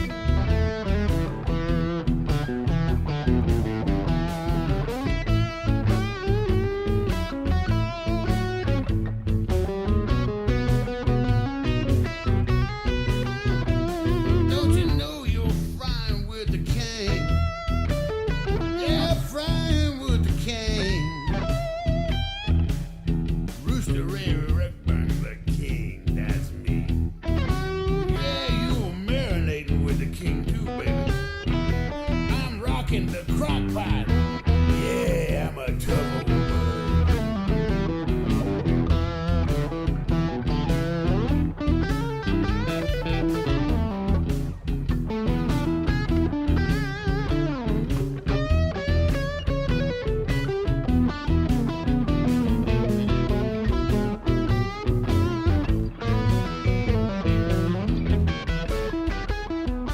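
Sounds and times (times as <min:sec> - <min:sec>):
bass: 0:00.0 - 0:59.9
electric guitar lead: 0:00.0 - 0:59.9
steady drum beat: 0:00.0 - 0:59.9.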